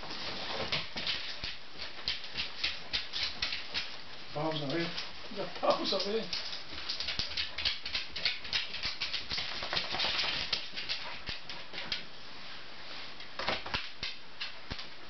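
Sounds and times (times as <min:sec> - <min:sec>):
rustling of fur and clothing: 0:00.0 - 0:15.0.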